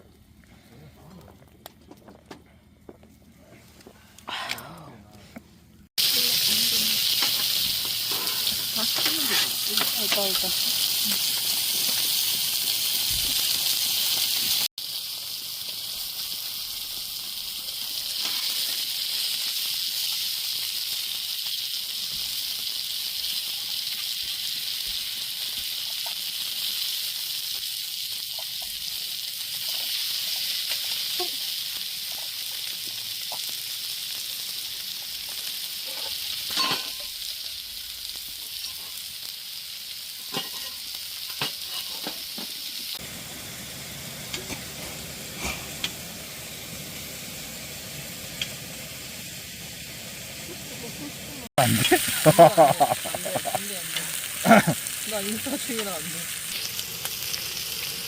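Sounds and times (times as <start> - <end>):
food sizzling in a pan: 5.9 - 58.0.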